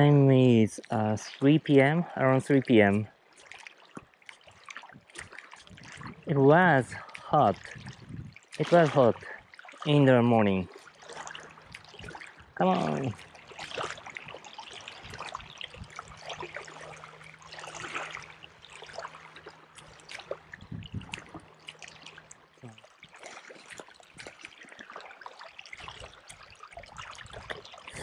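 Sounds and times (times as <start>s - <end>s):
small waves lapping: 0.0s - 28.0s.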